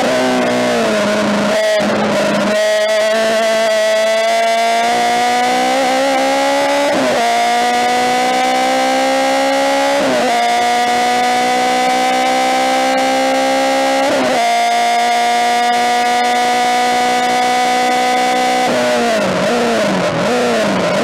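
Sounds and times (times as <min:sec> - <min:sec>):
gear changes: 0:00.0 - 0:21.0
race car engine at high revs: 0:00.0 - 0:21.0.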